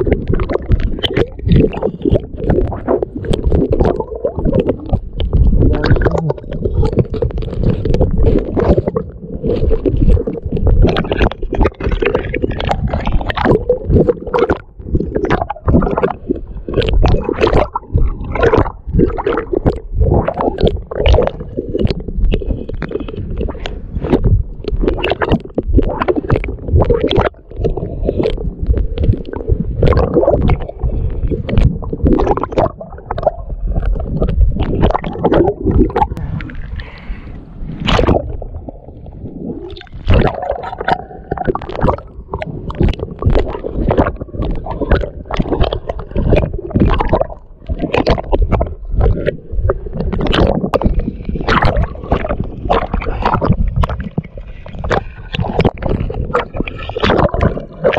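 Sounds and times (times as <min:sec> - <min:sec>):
sea water sloshing and splashing: 0:00.0 - 0:57.9.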